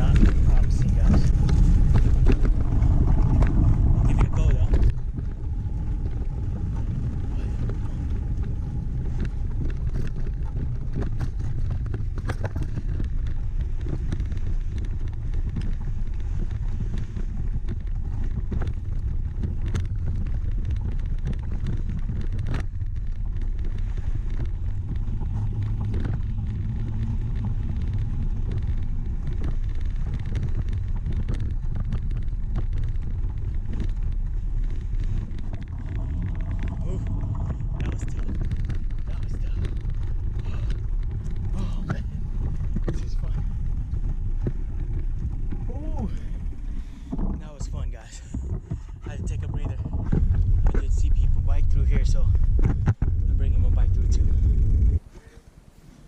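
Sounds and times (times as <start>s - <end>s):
bike clicks and knocks: 0.0s - 55.1s
bicycle riding over sandy trail: 0.0s - 56.0s
wind rumble on microphone: 0.0s - 56.0s.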